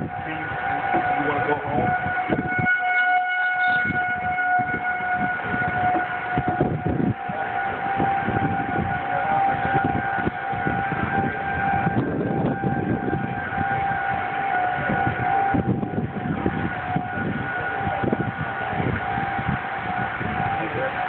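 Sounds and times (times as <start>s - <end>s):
warning siren held tone: 0.0s - 21.0s
wind on microphone: 0.0s - 21.0s.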